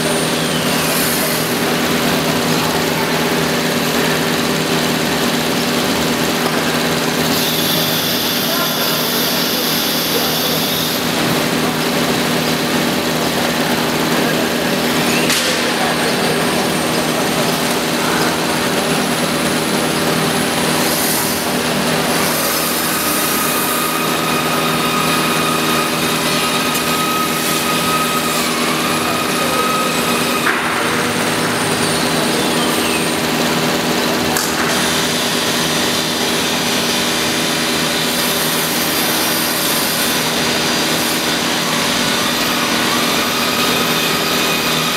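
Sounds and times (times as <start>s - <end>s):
cnc router cutting wood: 0.0s - 44.9s
high machine tone: 0.0s - 44.9s.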